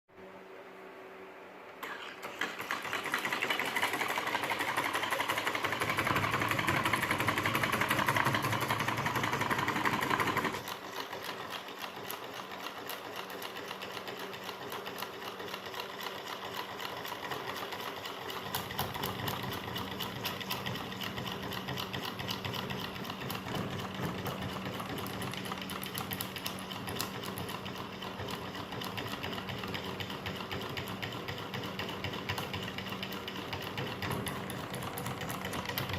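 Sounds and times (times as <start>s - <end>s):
solenoid engine clattering: 1.8s - 35.9s.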